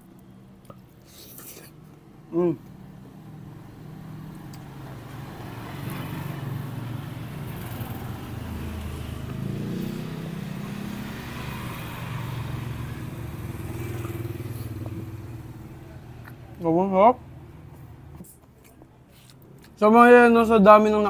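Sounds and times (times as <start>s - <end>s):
vehicles passing on a road: 0.0s - 21.0s.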